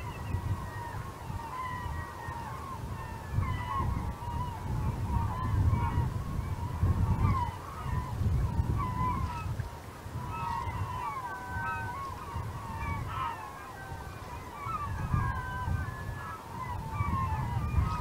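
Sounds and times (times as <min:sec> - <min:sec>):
gulls calling: 0:00.0 - 0:09.5, 0:10.1 - 0:18.0.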